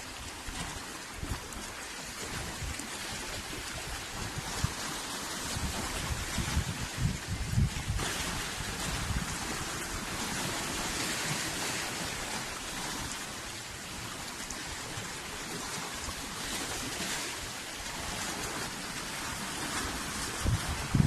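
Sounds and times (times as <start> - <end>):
sea water rushing: 0.0 - 21.0
wind: 0.0 - 21.0.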